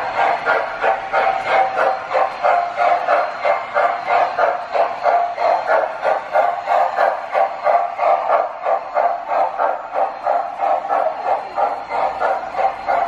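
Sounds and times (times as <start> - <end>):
model steam locomotive chuffing: 0.0 - 13.0
steam hiss: 0.0 - 13.0.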